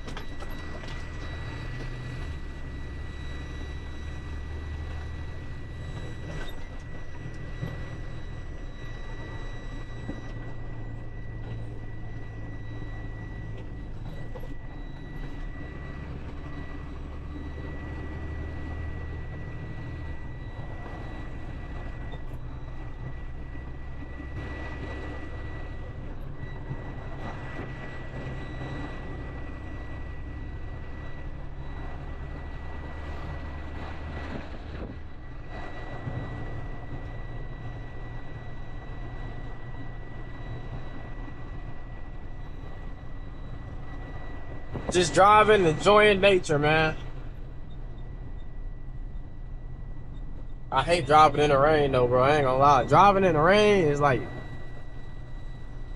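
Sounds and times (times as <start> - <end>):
diesel truck engine rumble: 0.0 - 55.9
thin high whine: 0.0 - 55.9.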